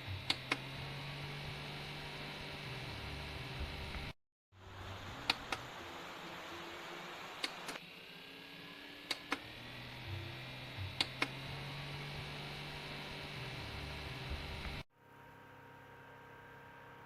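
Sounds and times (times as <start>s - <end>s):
desk fan running: 0.0s - 16.8s.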